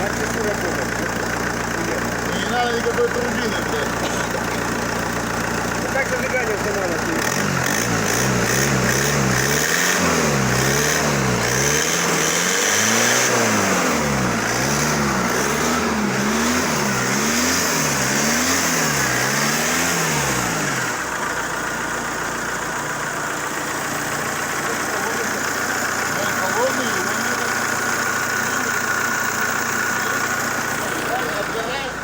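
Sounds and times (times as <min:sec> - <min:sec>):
diesel engine revving and idling: 0:00.0 - 0:32.0.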